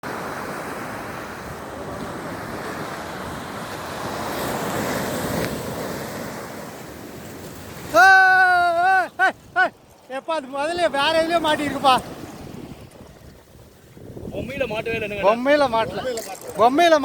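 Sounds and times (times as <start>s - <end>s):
waves washing in: 0.0s - 17.0s
wind buffeting the microphone: 0.0s - 17.0s.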